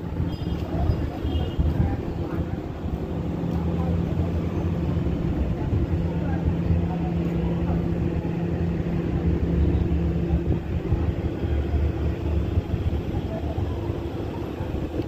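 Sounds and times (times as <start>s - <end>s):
faint engine hum: 0.0s - 15.0s
low street rumble: 0.0s - 15.0s.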